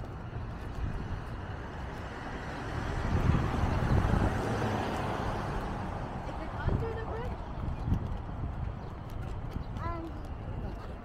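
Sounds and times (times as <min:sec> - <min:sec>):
cars passing on street: 0:00.0 - 0:11.0.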